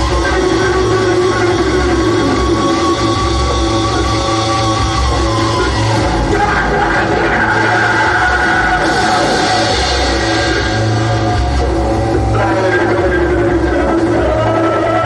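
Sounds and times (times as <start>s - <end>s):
heavy rock music: 0.0s - 15.0s
pulsing bass: 0.0s - 15.0s.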